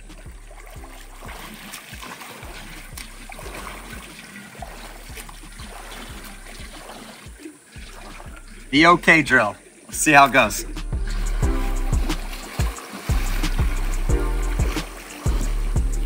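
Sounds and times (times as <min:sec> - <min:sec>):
soft low thumps: 0:00.0 - 0:09.0, 0:10.0 - 0:16.0
swimmer splashing through water: 0:00.0 - 0:16.0.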